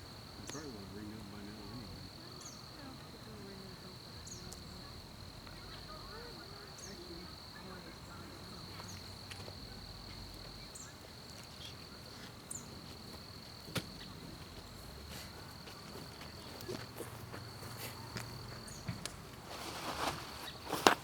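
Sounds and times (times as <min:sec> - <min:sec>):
insect trilling: 0:00.0 - 0:19.2
campfire crackling: 0:00.0 - 0:21.0.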